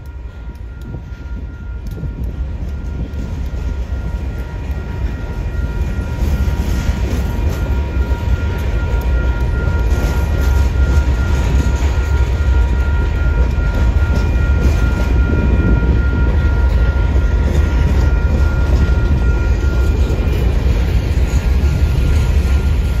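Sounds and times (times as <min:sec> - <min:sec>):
crossing warning bell ringing: 0:00.0 - 0:23.0
freight train rumbling past: 0:00.0 - 0:23.0.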